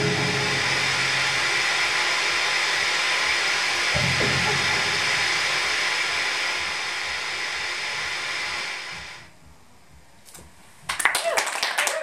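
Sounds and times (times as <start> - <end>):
electronic noise hiss: 0.0 - 10.8.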